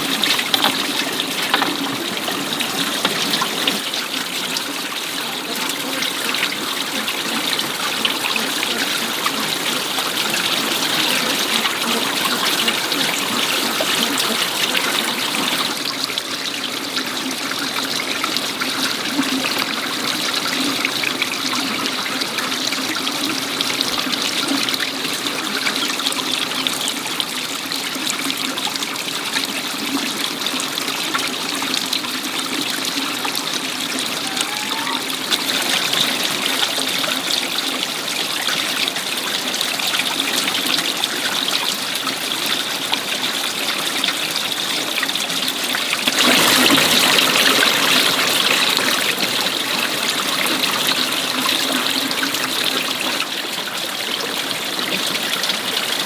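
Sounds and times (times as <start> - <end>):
water trickling in a stream: 0.0 - 56.0.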